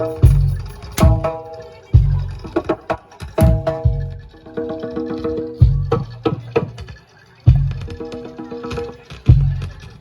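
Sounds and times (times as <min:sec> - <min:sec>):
ringing metal percussion: 0:00.0 - 0:09.5.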